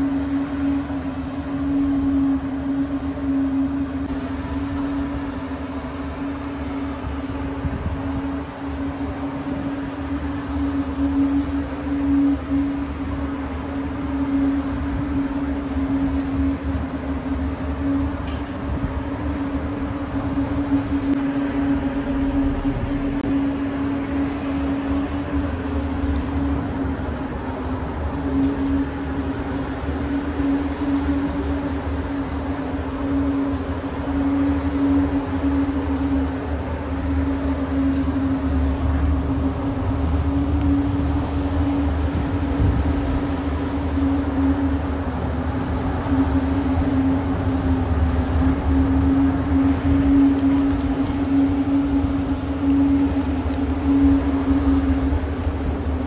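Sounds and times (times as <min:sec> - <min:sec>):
yacht machinery hum and rumble: 0:00.0 - 0:56.0.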